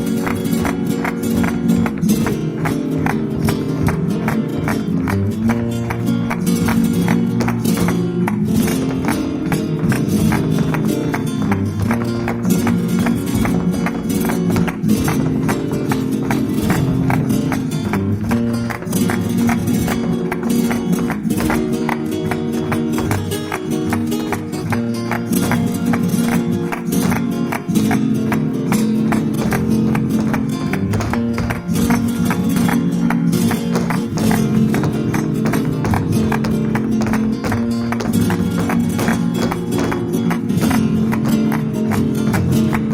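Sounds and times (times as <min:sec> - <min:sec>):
flamenco guitar plucking: 0:00.0 - 0:42.9.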